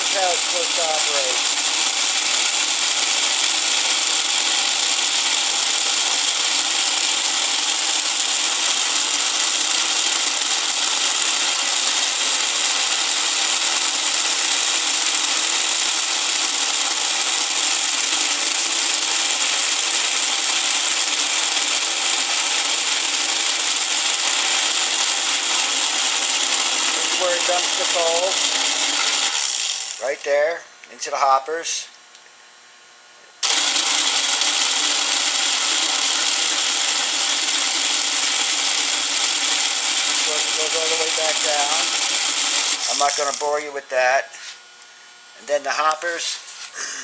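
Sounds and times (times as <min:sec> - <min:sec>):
mechanical whirring and grinding: 0:00.0 - 0:30.2, 0:33.4 - 0:43.6.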